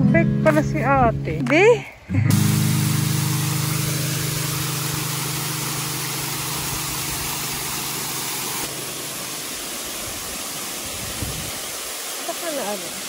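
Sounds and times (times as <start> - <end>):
waterfall rushing: 2.3 - 13.0.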